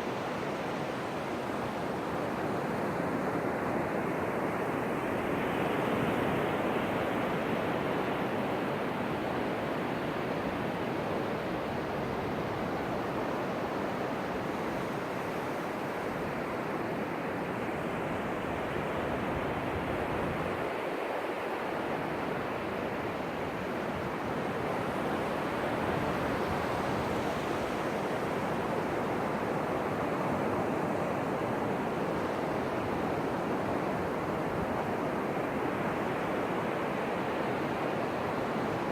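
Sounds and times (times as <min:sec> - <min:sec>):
ocean surf washing ashore: 0:00.0 - 0:38.9.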